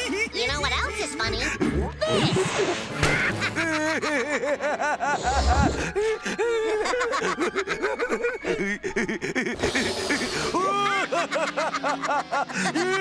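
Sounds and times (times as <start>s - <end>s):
cartoon voices laughing: 2.0s - 13.0s.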